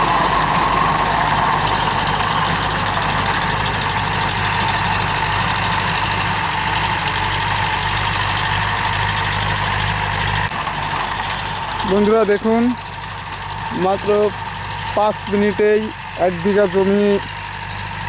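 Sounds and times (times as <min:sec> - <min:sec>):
tiller blades churning dry soil: 0:00.0 - 0:18.0
tractor diesel engine under load: 0:00.0 - 0:18.0.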